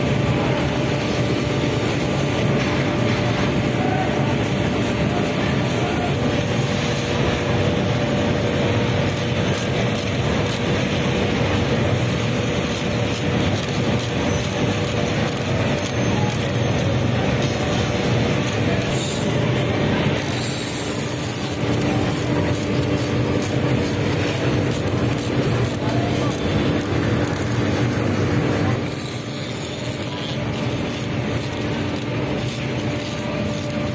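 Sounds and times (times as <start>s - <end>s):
continuous hum: 0.0s - 33.9s.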